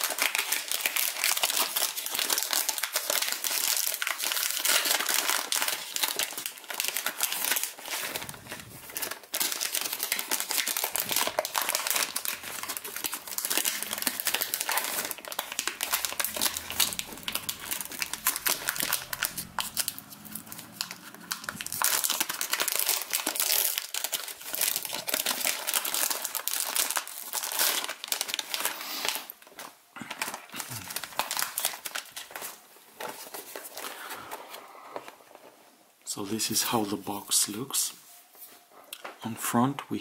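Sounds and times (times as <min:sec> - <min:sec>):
cellophane wrap crinkling: 0:00.0 - 0:37.6.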